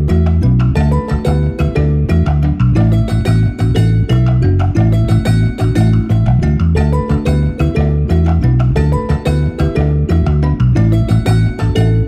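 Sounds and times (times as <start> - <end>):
background music with percussive beat: 0.0 - 12.0.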